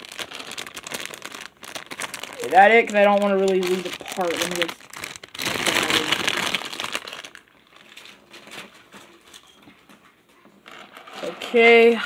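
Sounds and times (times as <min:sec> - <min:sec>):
plastic bag crinkling: 0:00.0 - 0:09.6, 0:10.6 - 0:12.0.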